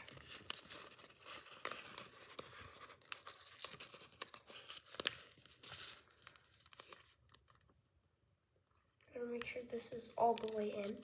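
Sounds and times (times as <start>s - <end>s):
paper rustling and crinkling: 0.0s - 7.7s, 9.4s - 11.0s.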